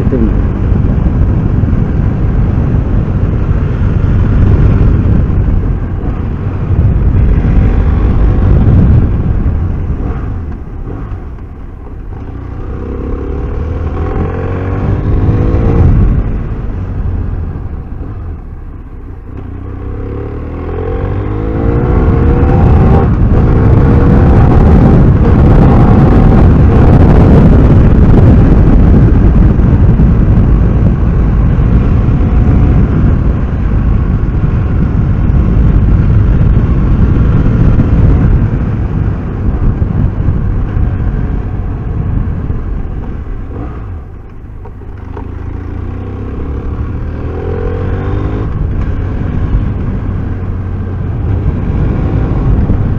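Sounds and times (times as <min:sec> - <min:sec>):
motorcycle engine accelerating: 0:00.0 - 0:52.9
wind rushing: 0:00.0 - 0:52.9.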